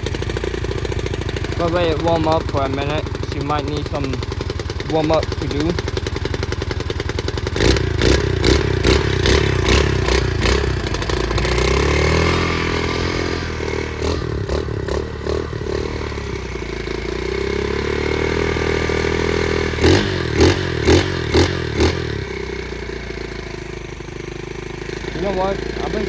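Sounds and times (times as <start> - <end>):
pit bike engine revving: 0.0 - 26.0.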